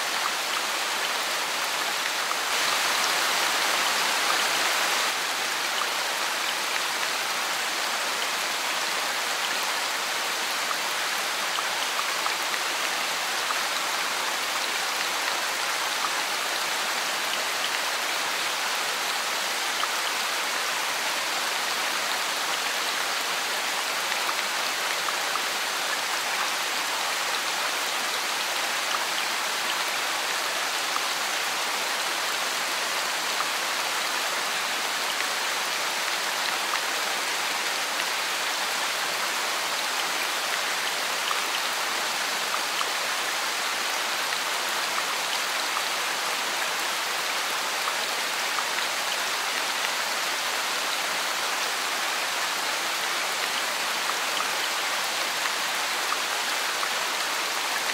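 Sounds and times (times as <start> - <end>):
heavy rain on pavement: 0.0 - 57.9.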